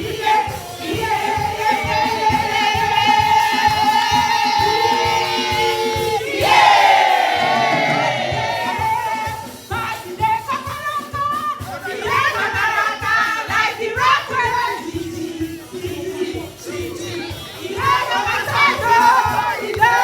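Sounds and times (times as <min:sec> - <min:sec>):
worship singing with band: 0:00.0 - 0:20.0.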